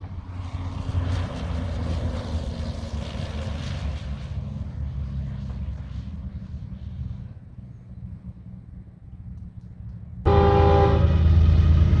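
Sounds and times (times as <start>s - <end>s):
propeller airplane engine drone: 0.0s - 12.0s.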